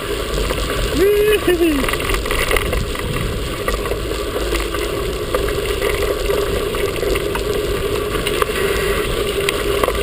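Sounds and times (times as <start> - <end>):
bike rattling over bumps: 0.0 - 10.0
wind rushing over microphone: 0.0 - 10.0.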